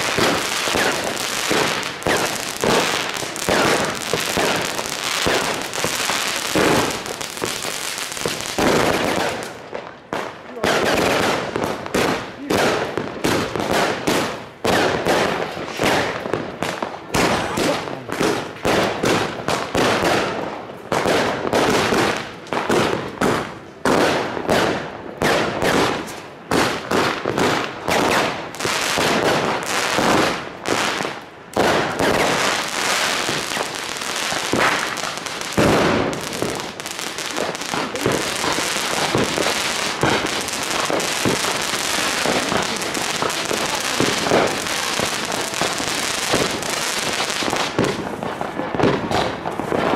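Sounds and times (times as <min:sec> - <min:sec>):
firecrackers banging: 0:00.0 - 0:49.9
fireworks bursting: 0:00.0 - 0:49.9.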